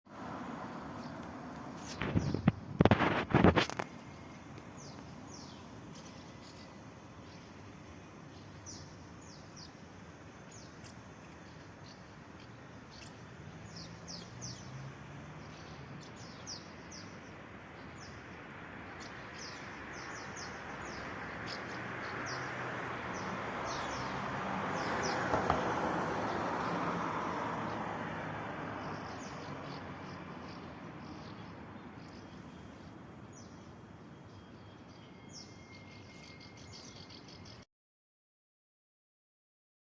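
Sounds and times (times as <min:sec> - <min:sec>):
city street noise: 0:00.1 - 0:37.6
small birds chirping: 0:00.8 - 0:25.4, 0:26.0 - 0:37.7.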